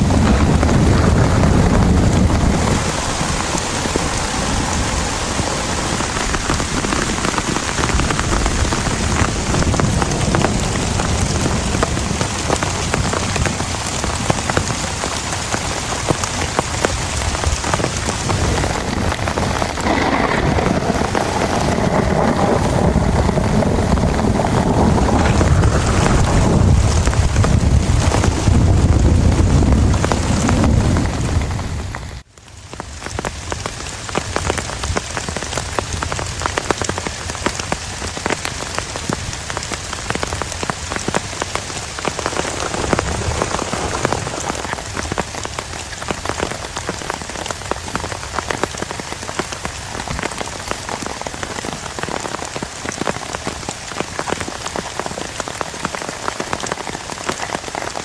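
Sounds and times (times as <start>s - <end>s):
wind rumble on microphone: 0.0s - 32.2s, 32.9s - 58.0s
heavy rain falling: 0.0s - 58.0s.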